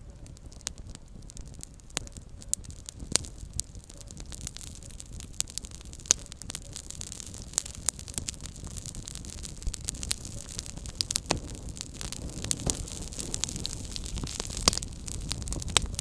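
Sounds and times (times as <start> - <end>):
campfire crackling and popping: 0.0 - 16.0
low rumble of flame: 0.0 - 16.0.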